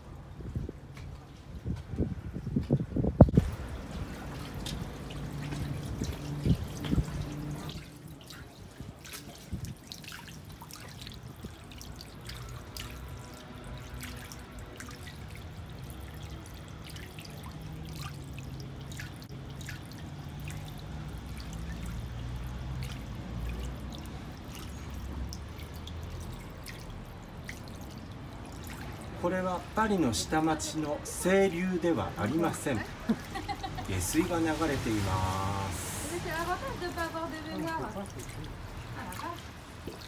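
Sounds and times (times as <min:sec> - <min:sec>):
water trickling down stone steps: 0:02.6 - 0:40.0.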